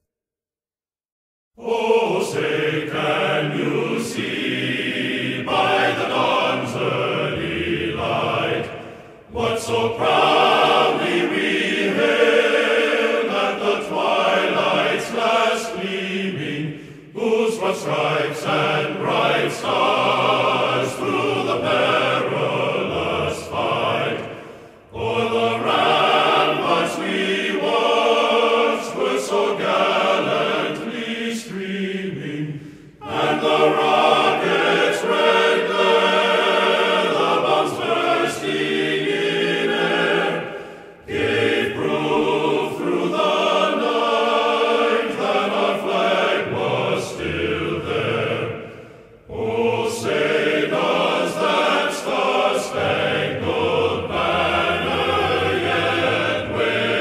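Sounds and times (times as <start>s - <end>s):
choir singing in harmony: 1.6s - 57.0s.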